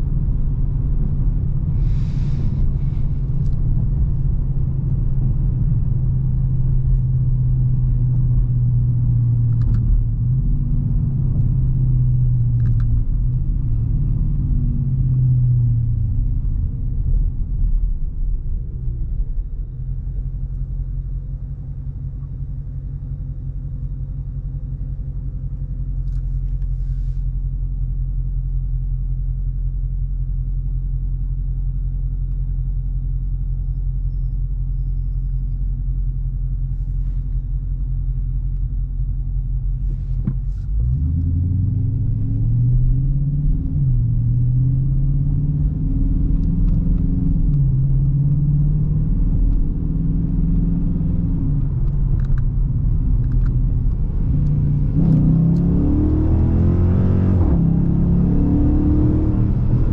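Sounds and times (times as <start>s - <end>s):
car engine cruising and idling: 0.0s - 59.9s.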